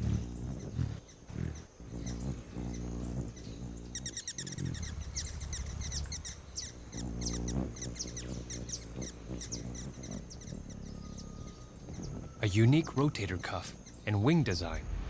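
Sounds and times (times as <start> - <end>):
hummingbird high chirping: 0.0 - 14.8
low steady hum: 0.0 - 15.0.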